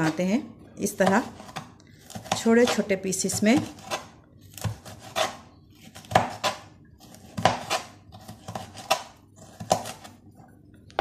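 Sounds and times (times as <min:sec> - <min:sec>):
knife chopping on cutting board: 0:01.0 - 0:10.1.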